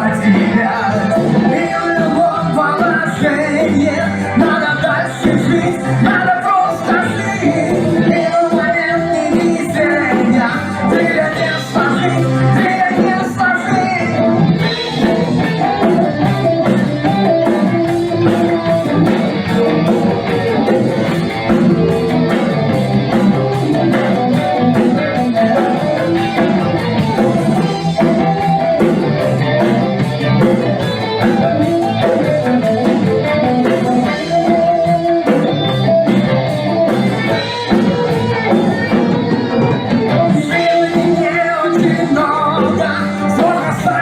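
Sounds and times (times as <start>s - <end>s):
drum kit steady beat: 0.0s - 44.0s
electric guitar playing: 0.0s - 44.0s.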